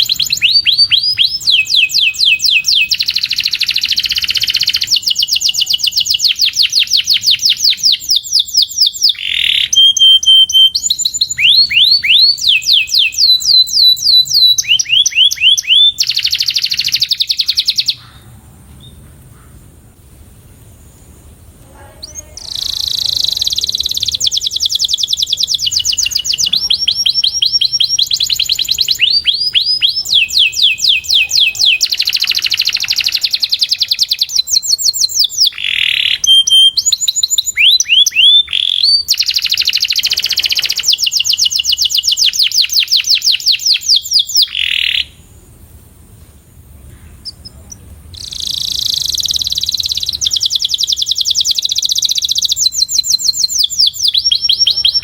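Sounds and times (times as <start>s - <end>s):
canary singing trills: 0.0s - 19.6s, 20.7s - 45.4s, 46.8s - 55.0s.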